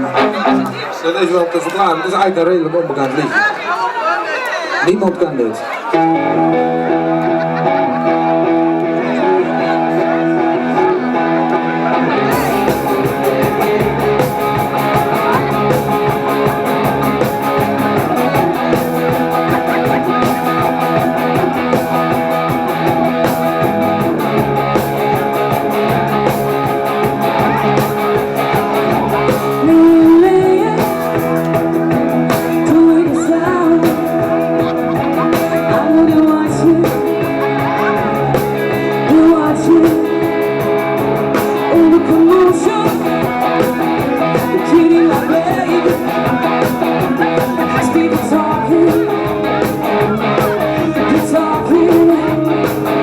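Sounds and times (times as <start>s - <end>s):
electric guitar: 0.0s - 1.0s, 5.8s - 53.0s
rock band playing: 0.0s - 2.3s, 5.8s - 53.0s
person singing: 5.9s - 53.0s
drums: 6.0s - 53.0s.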